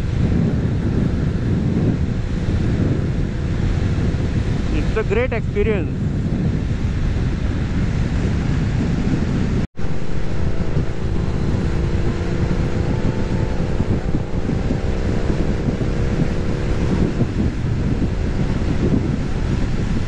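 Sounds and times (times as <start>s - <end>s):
motorcycle engine hum: 0.0s - 20.0s
wind buffeting microphone: 0.0s - 20.0s.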